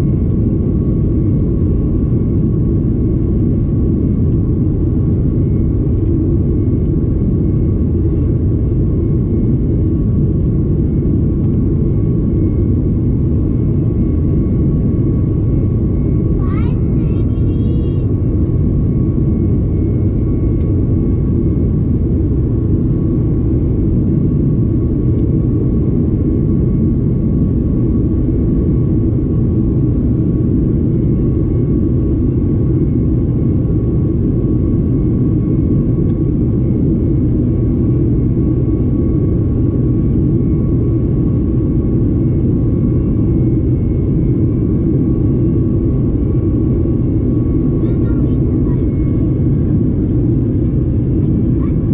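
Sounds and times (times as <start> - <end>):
aircraft cabin engine rumble: 0.0 - 51.9
faint steady whining tones: 0.0 - 51.9.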